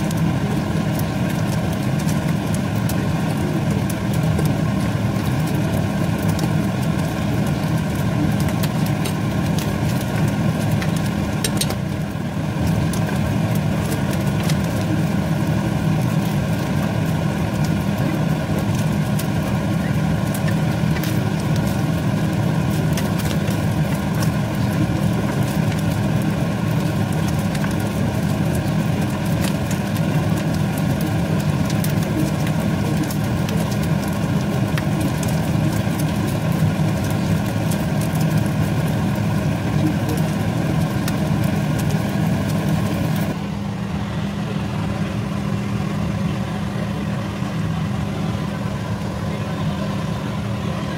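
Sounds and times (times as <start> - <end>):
meat crackling in a pan: 0.0 - 49.2.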